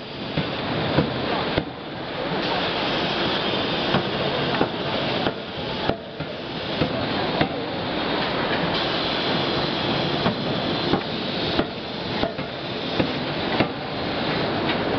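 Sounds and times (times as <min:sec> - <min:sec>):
loud machinery hiss: 0:00.0 - 0:14.9.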